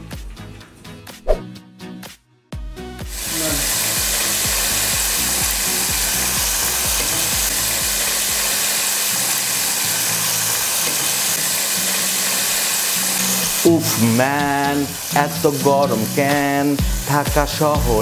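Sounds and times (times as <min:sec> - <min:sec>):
hot oil sizzling: 0:03.0 - 0:18.0.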